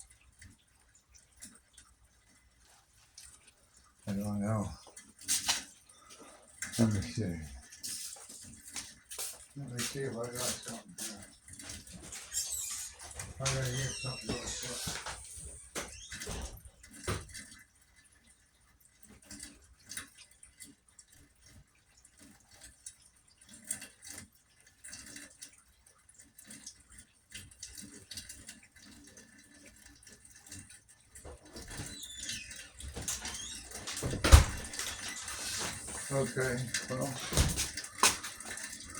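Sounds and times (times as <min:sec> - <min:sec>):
rainwater dripping: 0:00.0 - 0:38.9.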